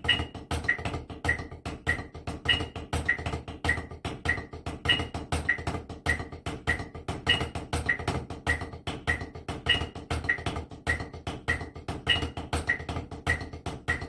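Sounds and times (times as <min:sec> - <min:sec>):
metronome beeps: 0:00.0 - 0:14.0
snare drum groove: 0:00.0 - 0:14.0.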